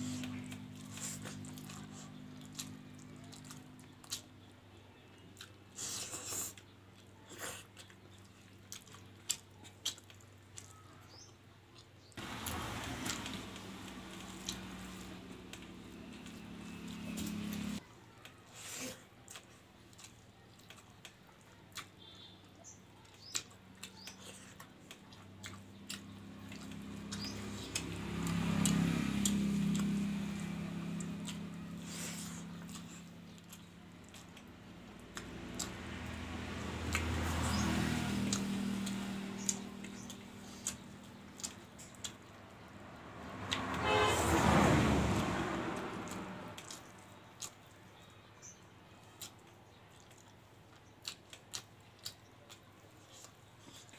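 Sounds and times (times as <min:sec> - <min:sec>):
wet chewing and lip smacking: 0:00.0 - 0:43.8, 0:44.4 - 0:48.1, 0:49.0 - 0:53.9.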